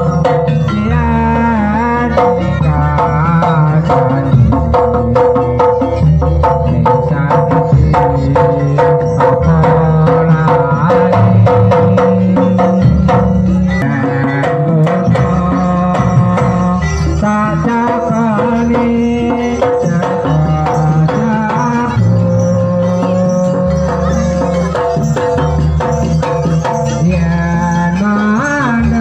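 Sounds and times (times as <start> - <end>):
fast dense drumming: 0.0 - 29.0
repeating pitched melody: 0.0 - 29.0.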